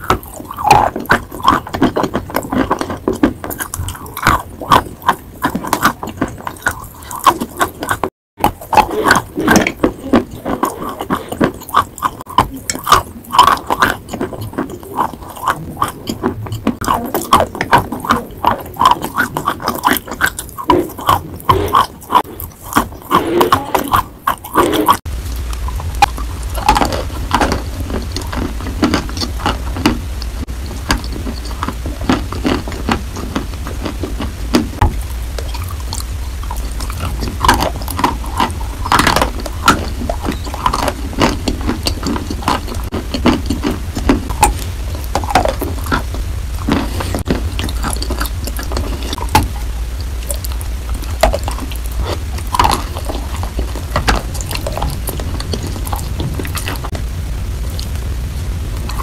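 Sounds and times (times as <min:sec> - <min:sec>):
chewing chalk close up: 0:00.0 - 0:57.0
wet mouth sounds: 0:00.0 - 0:57.0, 0:57.6 - 0:59.0
steady low hum: 0:00.0 - 0:59.0.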